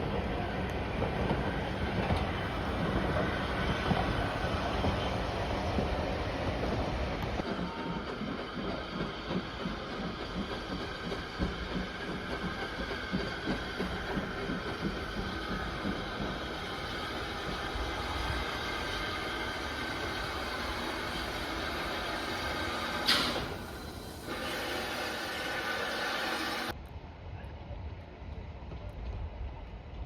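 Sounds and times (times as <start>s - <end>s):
train rumbling on railway: 0.0s - 30.0s.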